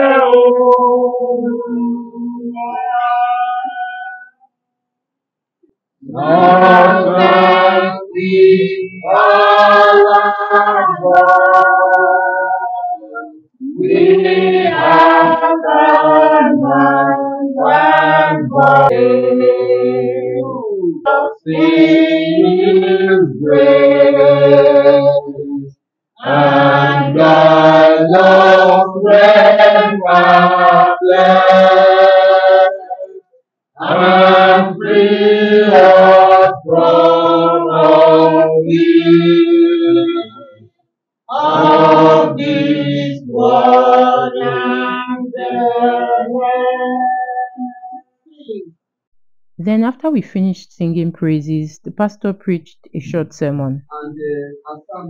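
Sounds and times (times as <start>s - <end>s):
group singing a hymn unaccompanied: 0.0s - 4.3s, 6.0s - 40.7s, 41.3s - 48.0s.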